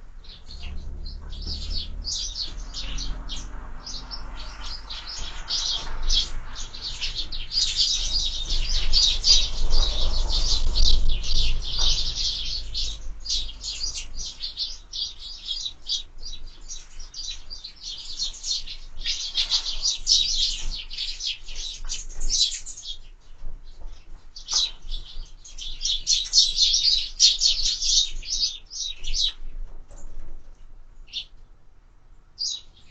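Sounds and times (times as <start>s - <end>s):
sparrows chirping: 0.0s - 30.2s, 31.0s - 31.5s, 32.4s - 32.9s.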